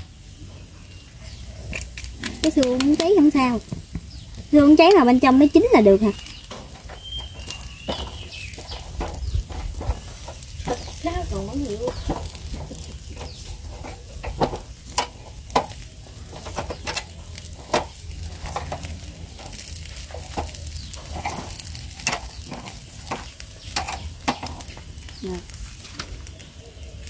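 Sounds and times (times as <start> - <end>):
meat sizzling: 0.0 - 27.0
metal tongs clicking on grill: 1.3 - 25.1.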